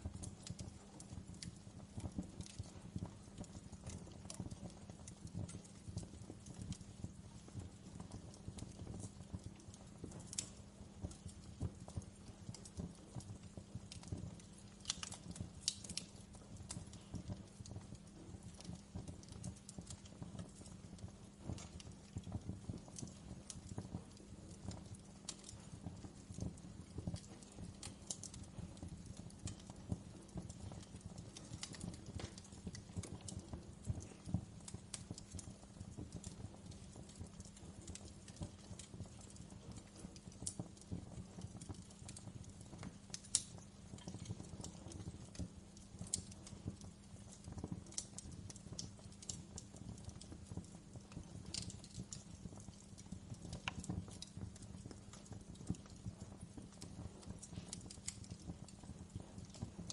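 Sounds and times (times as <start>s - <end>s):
low rumble of flames: 0.0s - 59.9s
sharp snaps of fire: 0.0s - 59.9s
wood fire crackling: 0.0s - 59.9s.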